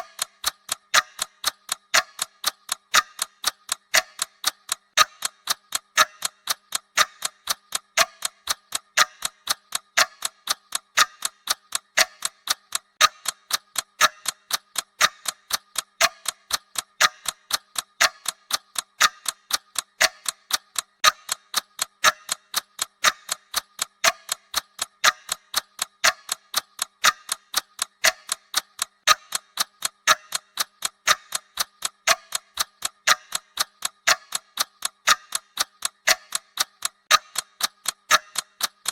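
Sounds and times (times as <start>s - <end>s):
fast clock-like ticking: 0.0s - 38.9s.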